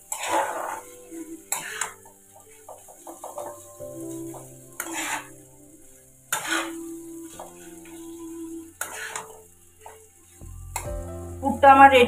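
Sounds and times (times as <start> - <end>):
spatula scraping a wok: 0.0 - 8.0, 8.8 - 10.4
filling sizzling: 0.0 - 12.0.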